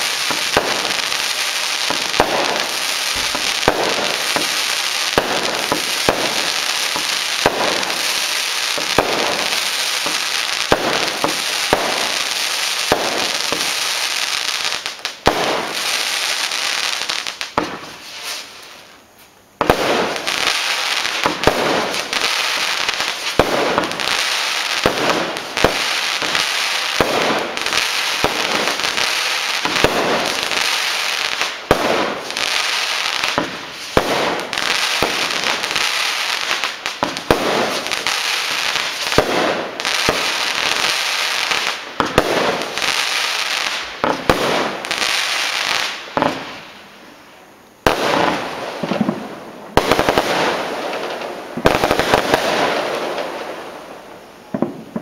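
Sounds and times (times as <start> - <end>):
fireworks launching and bursting: 0.0 - 55.0.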